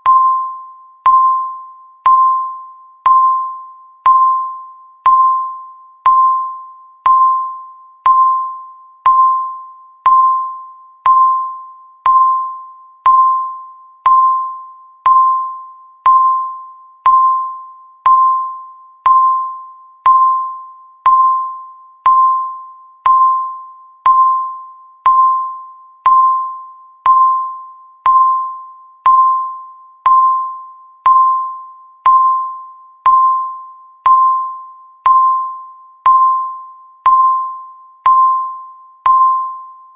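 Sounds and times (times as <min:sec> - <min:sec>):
bell-like timer ticking: 0:00.0 - 0:39.9.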